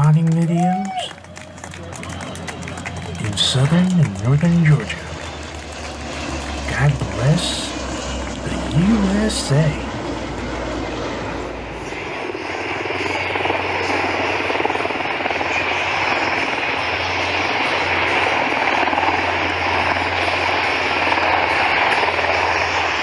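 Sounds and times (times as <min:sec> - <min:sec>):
aircraft drone overhead: 0:00.0 - 0:23.0.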